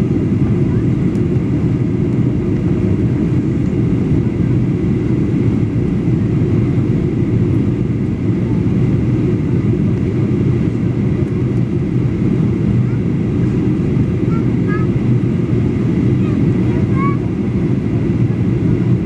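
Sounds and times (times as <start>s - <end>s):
airflow rush in plane cabin: 0.0s - 19.0s
jet engines droning: 0.0s - 19.0s.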